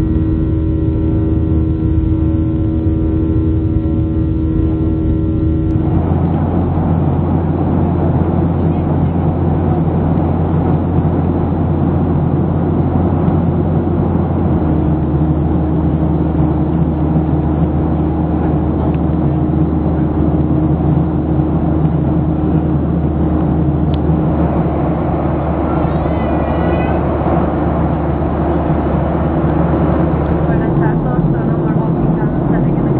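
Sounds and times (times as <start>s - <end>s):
jet engine cabin drone: 0.0s - 32.9s
steady hum: 0.0s - 32.9s.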